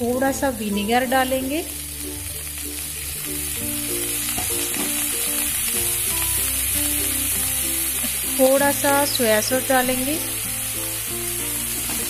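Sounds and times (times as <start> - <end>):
food sizzling in oil: 0.0 - 12.0
instrumental background music: 0.0 - 12.0.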